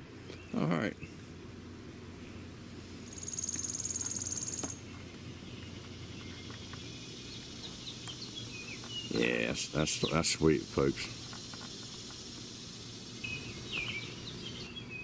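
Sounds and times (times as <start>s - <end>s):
high insect trill: 0.0s - 14.8s
low background hum: 0.0s - 15.0s.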